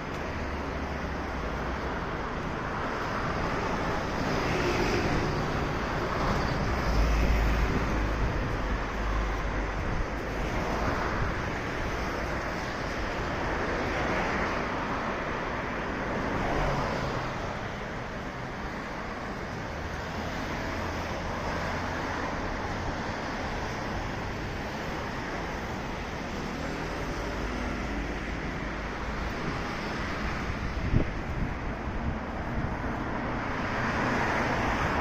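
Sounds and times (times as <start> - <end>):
steady traffic noise: 0.0 - 35.0.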